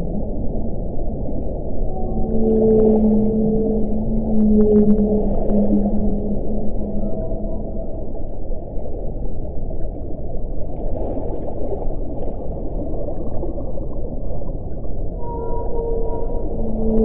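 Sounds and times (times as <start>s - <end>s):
underwater bubbling rumble: 0.0s - 17.0s.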